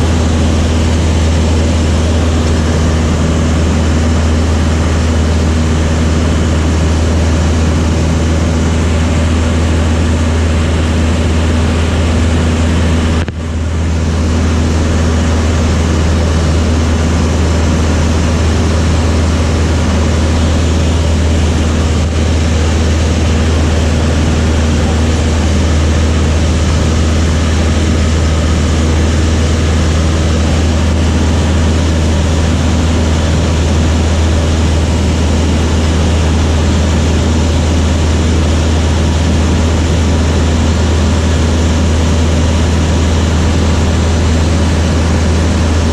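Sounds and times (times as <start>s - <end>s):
propeller aircraft engine droning: 0.0s - 45.9s.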